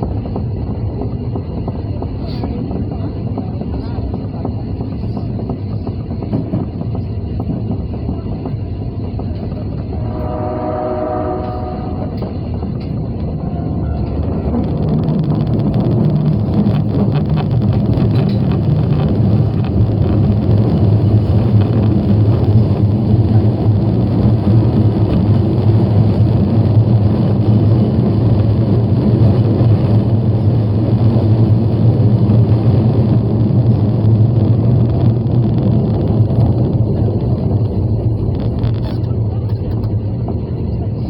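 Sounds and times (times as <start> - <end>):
subway train rumbling through tunnel: 0.0 - 41.0.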